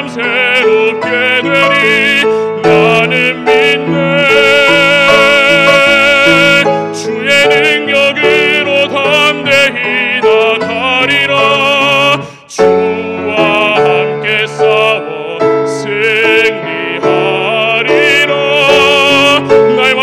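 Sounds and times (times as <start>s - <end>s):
instrumental accompaniment: 0.0s - 20.0s
man singing operatically: 0.0s - 20.0s.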